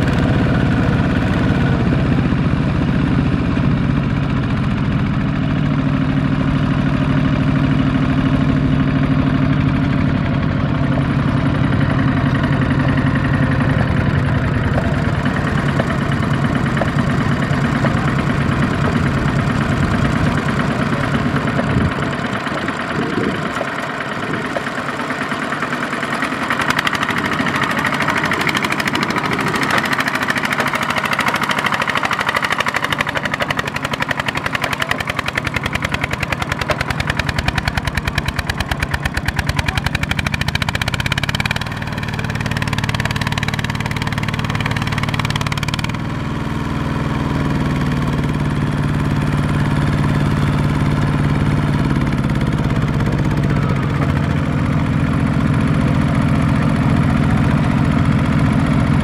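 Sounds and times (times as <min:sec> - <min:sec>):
diesel engine chugging under load: 0:00.0 - 0:59.0.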